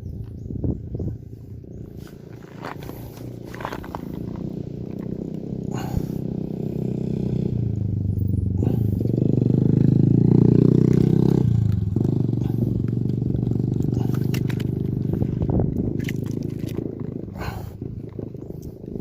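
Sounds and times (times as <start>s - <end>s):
engine droning and revving: 1.8s - 19.0s.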